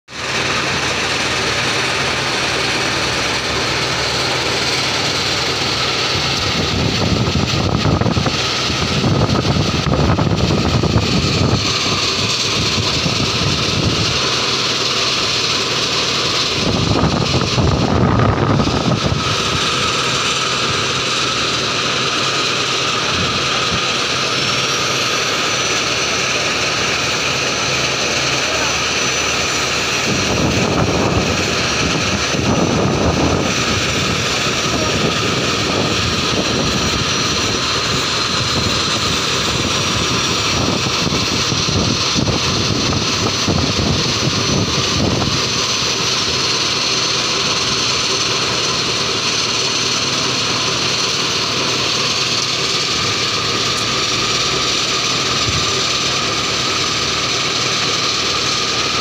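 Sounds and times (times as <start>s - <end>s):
dump truck diesel engine running: 0.1s - 59.0s.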